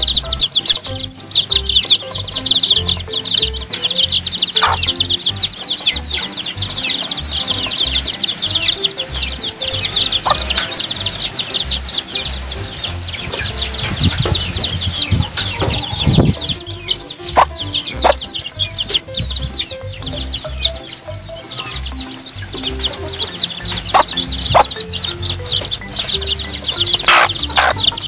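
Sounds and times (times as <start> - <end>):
chicks peeping: 0.0 - 28.0
faint background music: 0.0 - 28.0.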